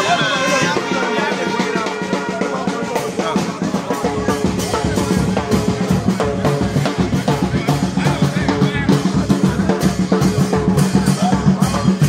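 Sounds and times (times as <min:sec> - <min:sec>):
music with quick drum beat: 0:00.0 - 0:12.0.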